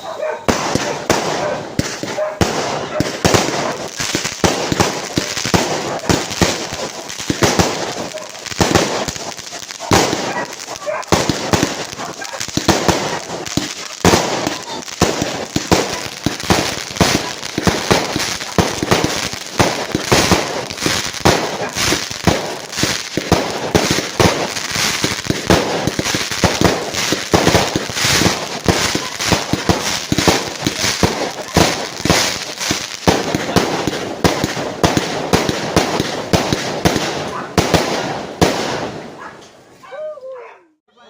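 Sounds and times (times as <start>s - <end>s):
fireworks bangs and crackles: 0.0s - 39.8s.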